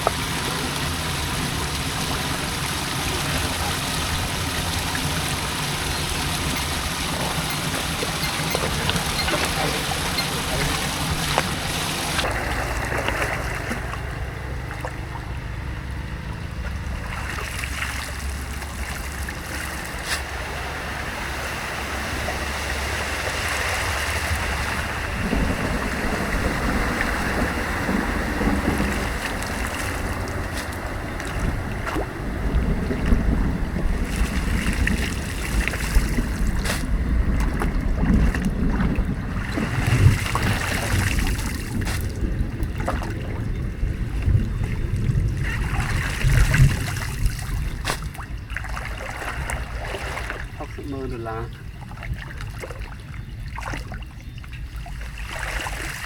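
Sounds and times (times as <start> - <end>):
floodwater churning and splashing: 0.0 - 56.0
wind buffeting microphone: 0.0 - 56.0.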